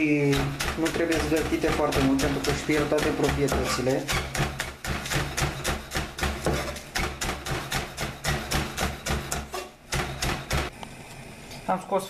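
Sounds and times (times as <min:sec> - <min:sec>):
knife chopping on wooden board: 0:00.0 - 0:10.7.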